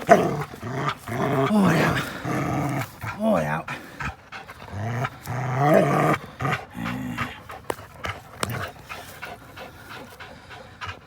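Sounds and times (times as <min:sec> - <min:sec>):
dog growling: 0:00.0 - 0:11.0
dog panting: 0:00.0 - 0:11.0.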